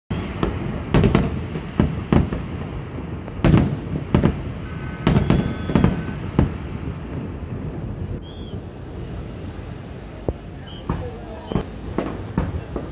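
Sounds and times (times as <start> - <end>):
firework shells bursting: 0.1 - 7.3, 7.9 - 12.9.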